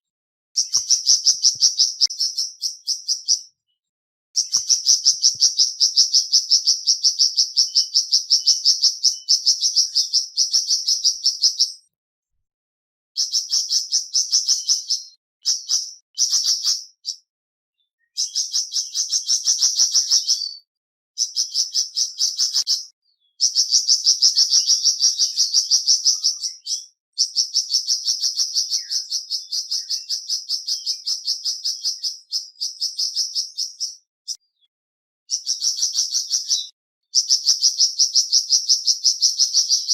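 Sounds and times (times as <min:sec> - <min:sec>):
songbird chattering song: 0:00.6 - 0:12.0, 0:13.2 - 0:39.9.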